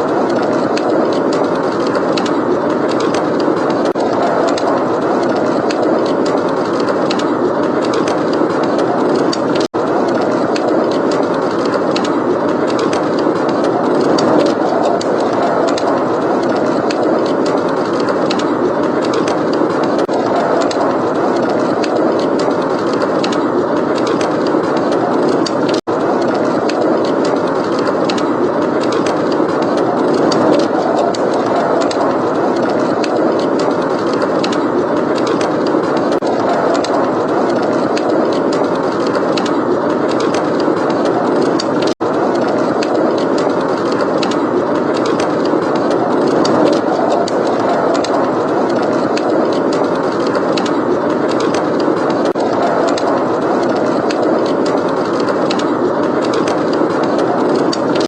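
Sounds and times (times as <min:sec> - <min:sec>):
wind blowing: 0:00.0 - 0:58.0
wood fire crackling: 0:00.0 - 0:58.0.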